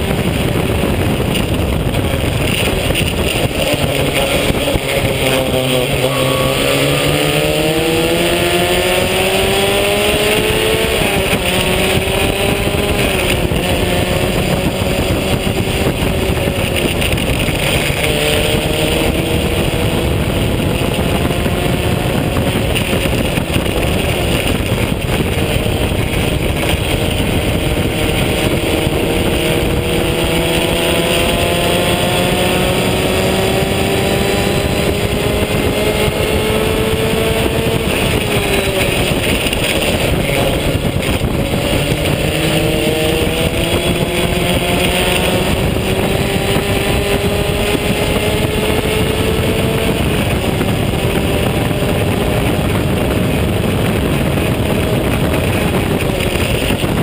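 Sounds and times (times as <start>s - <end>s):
race car engine revving: 0.0s - 57.0s
wind rushing: 0.0s - 57.0s.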